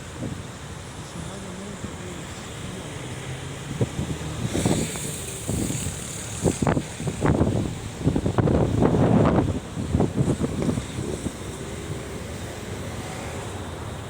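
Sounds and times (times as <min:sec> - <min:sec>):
wind buffeting microphone: 0:00.0 - 0:00.9, 0:01.8 - 0:14.0
pickup truck engine rumbling: 0:00.0 - 0:14.0.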